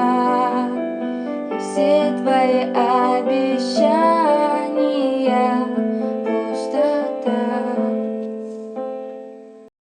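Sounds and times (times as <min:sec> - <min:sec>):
pop ballad keyboard chords: 0:00.0 - 0:09.7.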